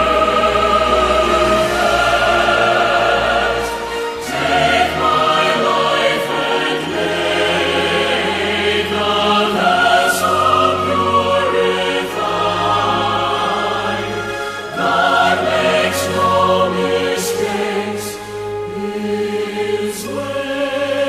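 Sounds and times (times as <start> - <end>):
choir singing held chords: 0.0 - 21.0
instrumental accompaniment: 0.0 - 21.0.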